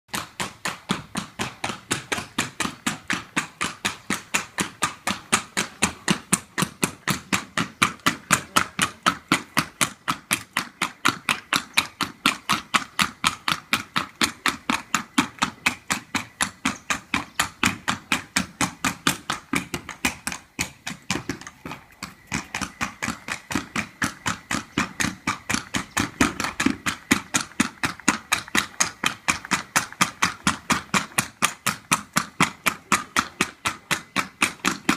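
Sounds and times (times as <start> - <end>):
horse hoofbeats on hard ground: 0.1 - 34.9.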